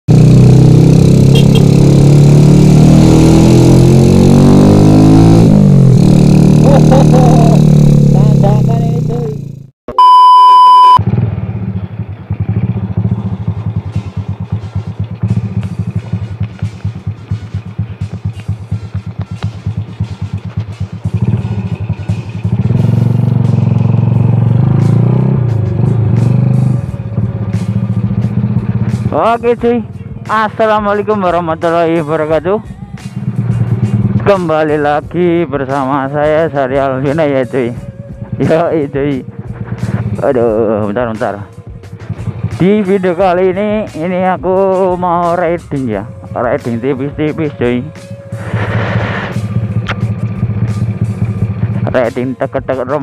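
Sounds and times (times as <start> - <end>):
motorcycle engine revving: 0.1 - 9.7, 10.5 - 53.0.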